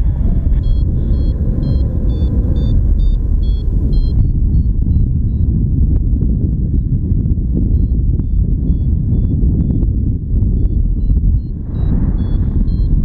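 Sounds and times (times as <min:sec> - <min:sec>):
variometer beeping: 0:00.0 - 0:13.0
wind rumbling over microphone: 0:00.0 - 0:13.0.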